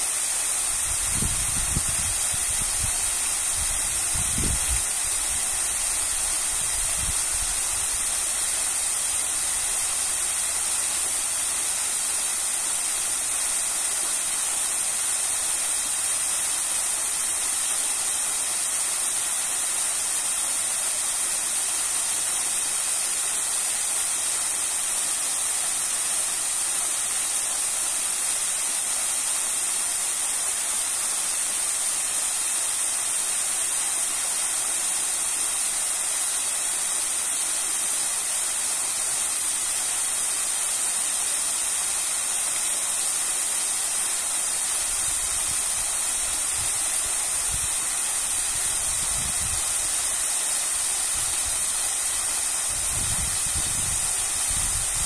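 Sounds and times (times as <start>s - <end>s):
waterfall splashing onto stone: 0.0s - 55.0s.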